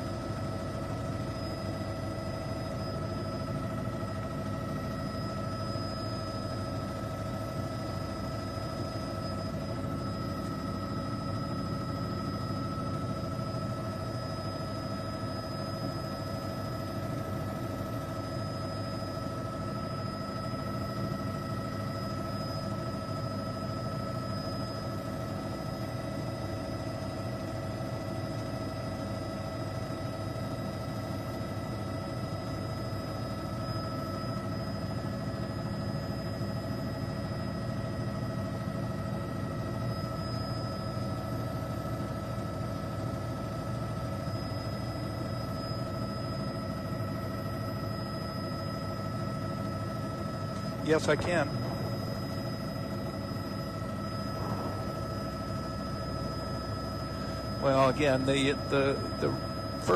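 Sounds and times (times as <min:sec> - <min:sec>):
constant whine: 0:00.0 - 0:59.9
helicopter engine and rotor drone: 0:00.0 - 0:59.9.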